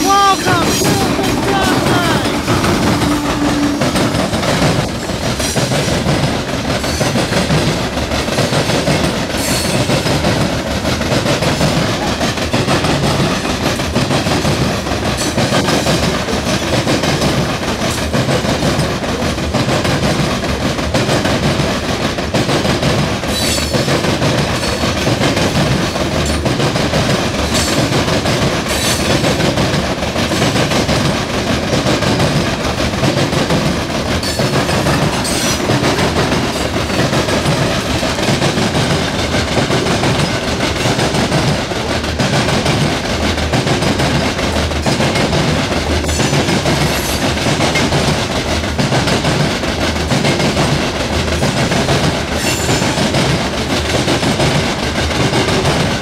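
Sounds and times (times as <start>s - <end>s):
freight train rumbling past: 0.0s - 56.0s
wheels clacking over rail joints: 0.0s - 56.0s.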